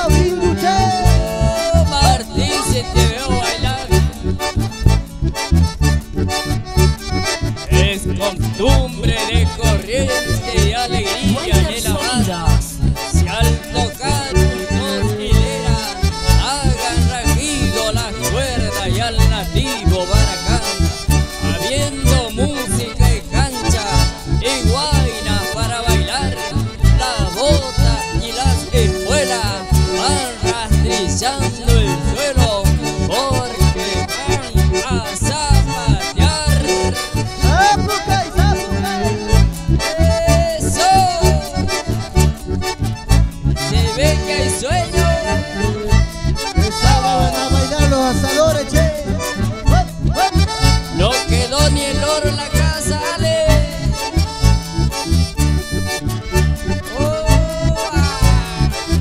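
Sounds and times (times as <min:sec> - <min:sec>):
accordion melody: 0:00.0 - 0:59.0
steady low beat: 0:00.0 - 0:59.0
strummed acoustic guitar: 0:00.0 - 0:59.0.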